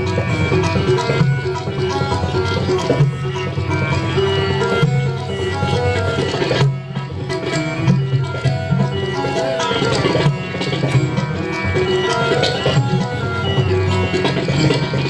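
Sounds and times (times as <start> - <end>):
keyboard melody: 0.0 - 15.0
tabla-style percussion: 0.0 - 15.0.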